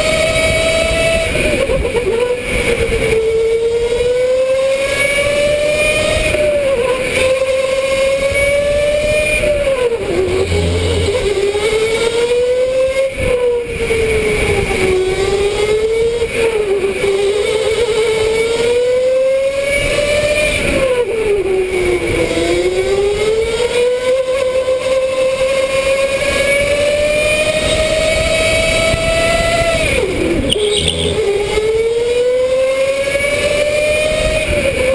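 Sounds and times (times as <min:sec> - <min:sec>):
electric go-kart motor whining: 0:00.0 - 0:34.9.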